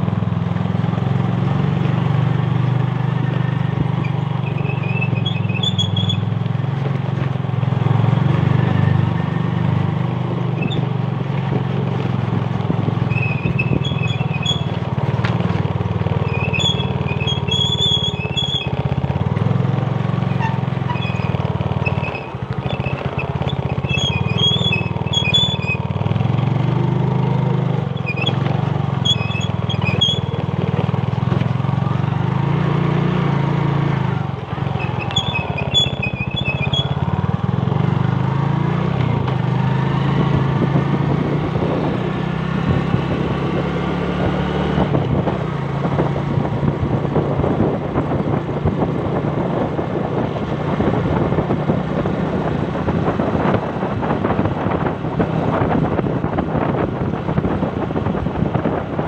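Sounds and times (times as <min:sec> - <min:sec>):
road and wind noise: 0:00.0 - 0:59.0
small motorcycle engine running: 0:00.0 - 0:59.0.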